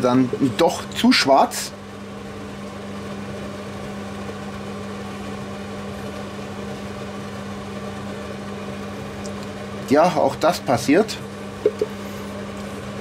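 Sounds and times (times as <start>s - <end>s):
cooling fan whirring: 0.0s - 13.0s
induction cooktop humming: 0.0s - 13.0s.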